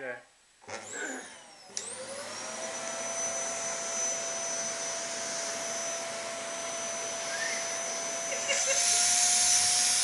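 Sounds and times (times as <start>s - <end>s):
vacuum cleaner motor whine: 0.6s - 10.0s.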